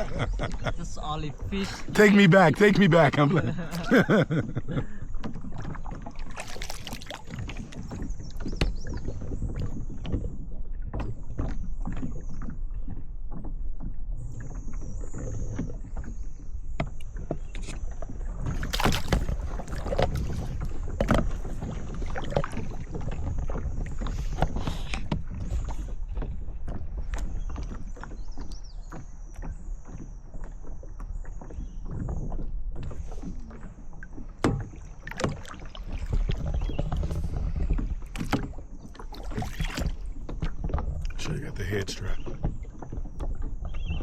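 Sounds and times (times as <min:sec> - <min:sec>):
paddle knocking against boat: 0:00.0 - 0:13.9, 0:16.8 - 0:44.0
paddle splashing in water: 0:00.0 - 0:44.0.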